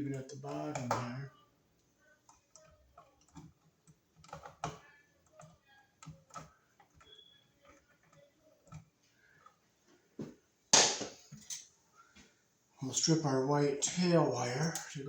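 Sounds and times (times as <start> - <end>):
wires clicking and scraping: 0.0 - 10.5, 11.1 - 13.2, 13.8 - 15.0.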